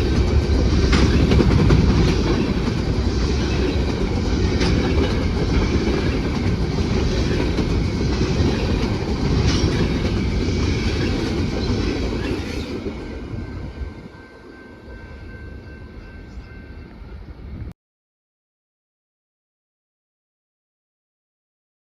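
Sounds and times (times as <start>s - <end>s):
freight train cars rumbling past: 0.0s - 17.7s.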